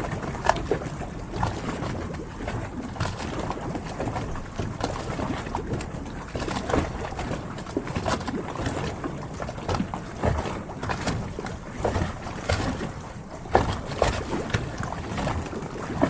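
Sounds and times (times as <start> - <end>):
water lapping against boat hulls: 0.0 - 16.0.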